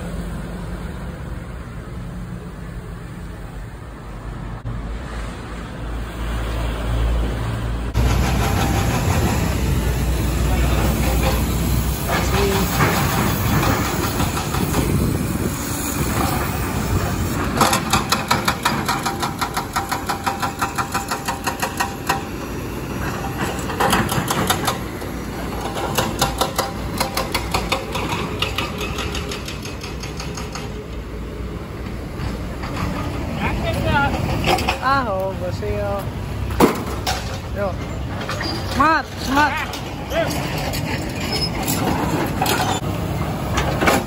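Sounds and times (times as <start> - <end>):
passing traffic: 0.0 - 44.0
heavy machinery rumble: 7.9 - 44.0.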